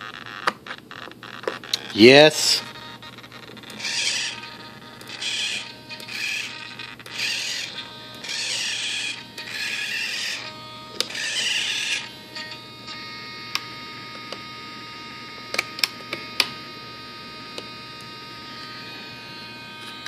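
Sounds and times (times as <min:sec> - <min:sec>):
faint electrical whine: 0:00.0 - 0:20.0.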